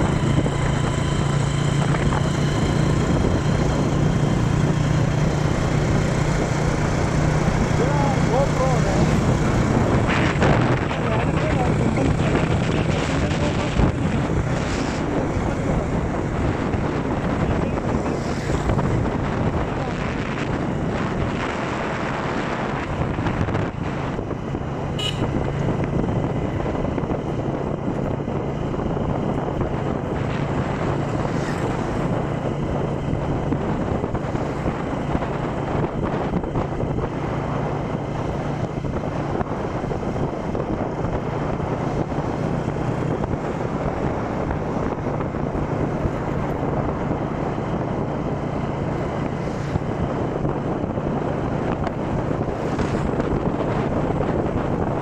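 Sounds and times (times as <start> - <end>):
low engine hum: 0.0 - 55.0
wind rushing over microphone: 0.0 - 55.0.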